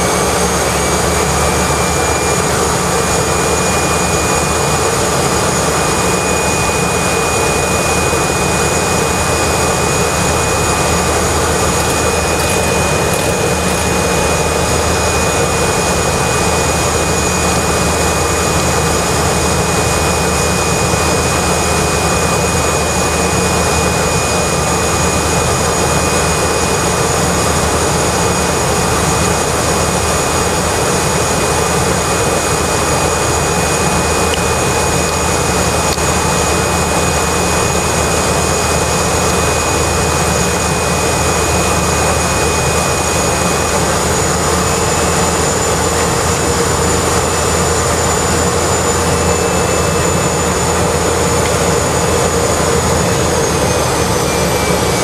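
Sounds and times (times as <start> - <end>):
high-pitched turbine whine: 0.0 - 55.0
propeller engine drone: 0.0 - 55.0.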